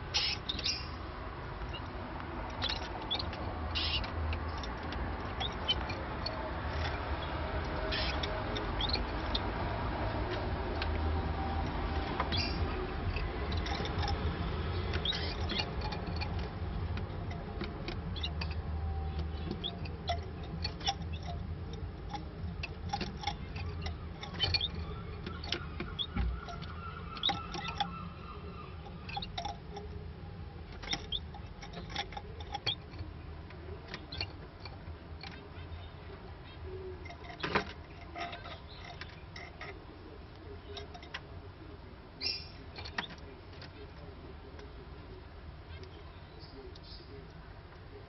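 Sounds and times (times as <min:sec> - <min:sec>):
canaries chirping: 0:00.0 - 0:48.0
low steady hum: 0:00.0 - 0:48.0.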